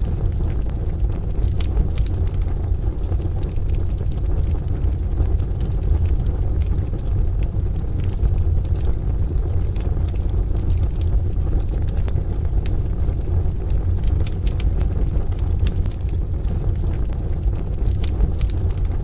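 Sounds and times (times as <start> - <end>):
low rumble: 0.0 - 19.0
wood fire crackling: 0.0 - 19.0.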